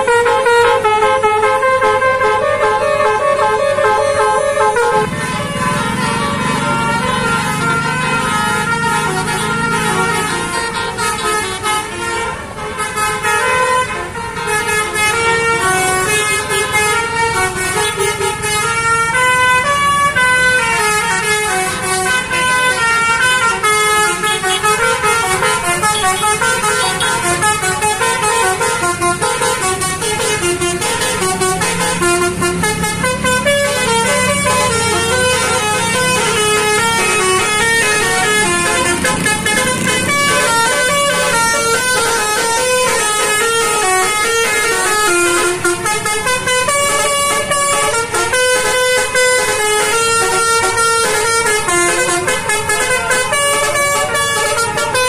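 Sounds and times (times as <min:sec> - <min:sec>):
bus horn playing melody: 0:00.0 - 0:55.0.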